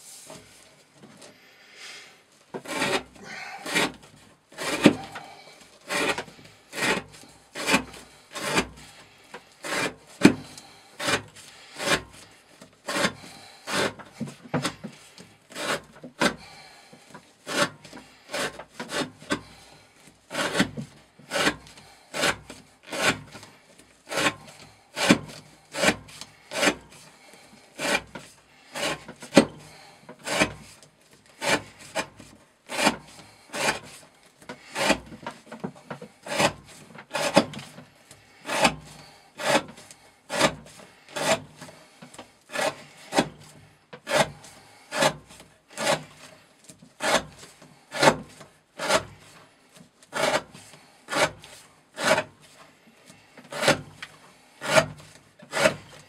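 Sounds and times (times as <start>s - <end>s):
knife shaving wooden stick: 2.3s - 56.0s.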